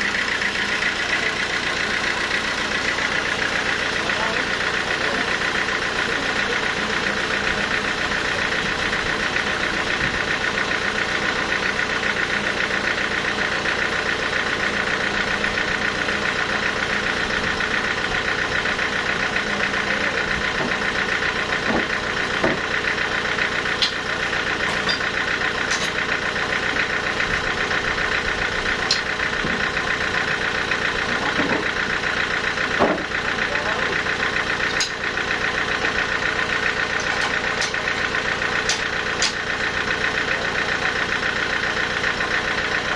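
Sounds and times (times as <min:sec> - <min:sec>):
sawmill machinery drone: 0:00.0 - 0:42.9.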